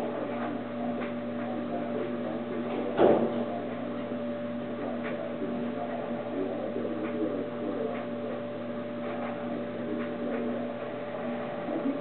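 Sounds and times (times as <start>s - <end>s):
electrical hum with tones: 0.0s - 12.0s.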